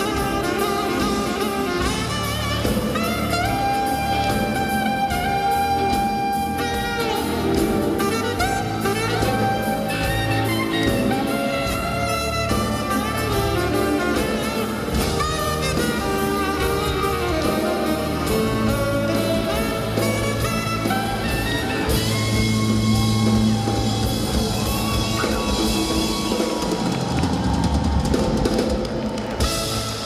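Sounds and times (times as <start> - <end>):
saxophone solo: 0.0 - 27.5
drum kit: 0.0 - 30.0
live band playing: 0.0 - 30.0.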